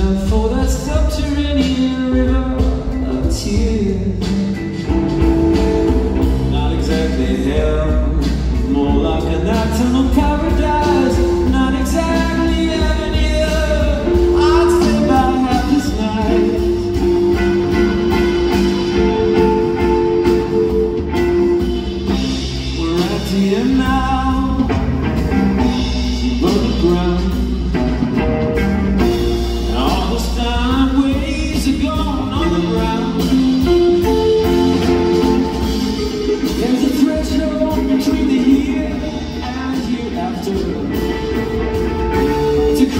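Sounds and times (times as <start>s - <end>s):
drums: 0.0s - 42.9s
electric guitar: 0.0s - 42.9s.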